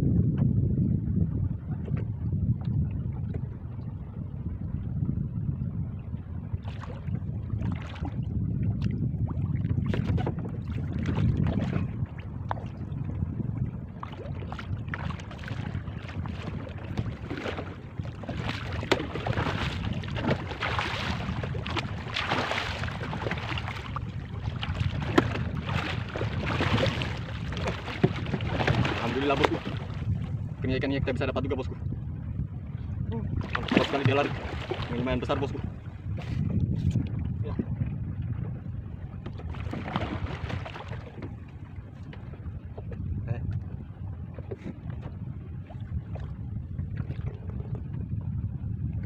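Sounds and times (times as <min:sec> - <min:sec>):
wind rumbling on microphone: 0:00.0 - 0:49.0.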